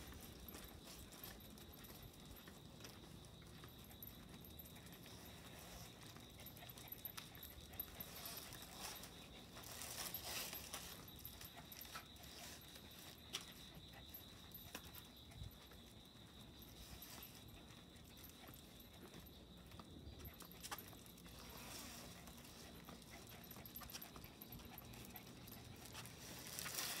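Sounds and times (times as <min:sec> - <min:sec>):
dogs panting and sniffing: 0:00.0 - 0:27.0.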